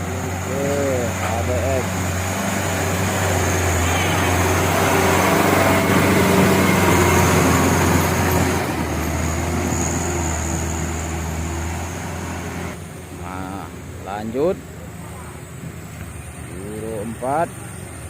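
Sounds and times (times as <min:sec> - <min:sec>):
road noise: 0:00.0 - 0:18.0
truck engine under load: 0:00.0 - 0:18.0.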